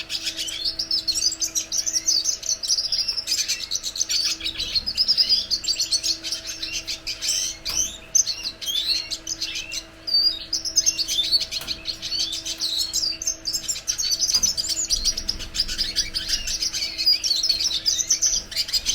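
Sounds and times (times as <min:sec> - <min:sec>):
bird twittering song: 0:00.0 - 0:18.9.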